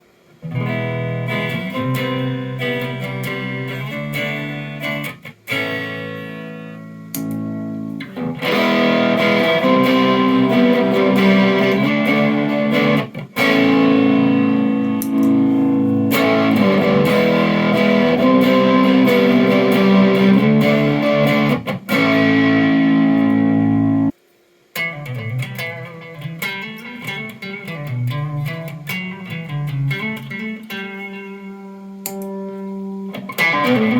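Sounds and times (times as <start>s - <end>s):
distorted electric guitar: 0.4s - 33.9s.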